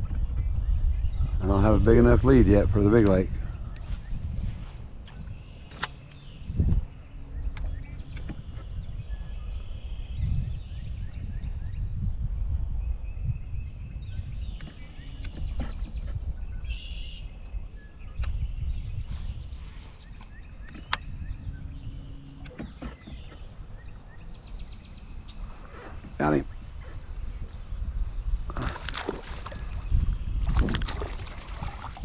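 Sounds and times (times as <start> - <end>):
birds chirping and singing: 0.0 - 32.0
wind buffeting microphone: 0.0 - 32.0.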